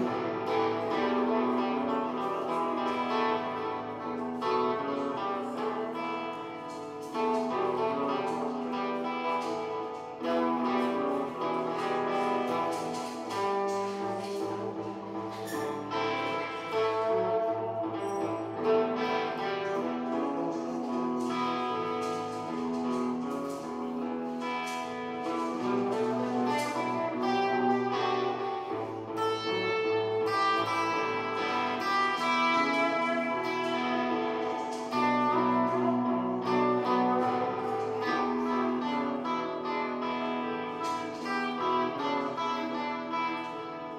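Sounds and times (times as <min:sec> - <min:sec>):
blues guitar playing: 0:00.0 - 0:43.9.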